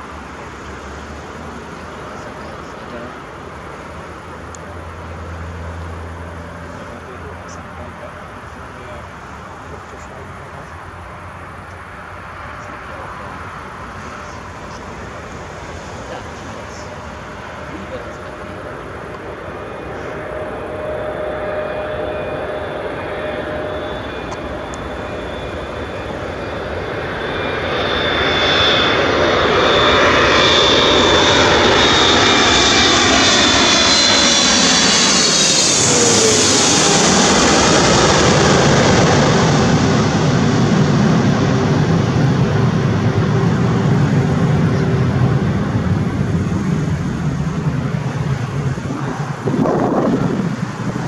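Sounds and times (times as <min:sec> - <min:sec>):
jet passing overhead: 0:00.0 - 0:51.0.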